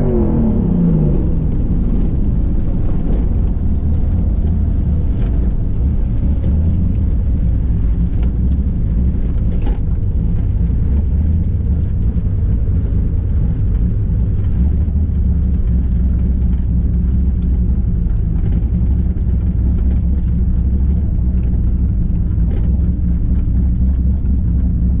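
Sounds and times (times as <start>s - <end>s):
car engine low drone: 0.0s - 25.0s.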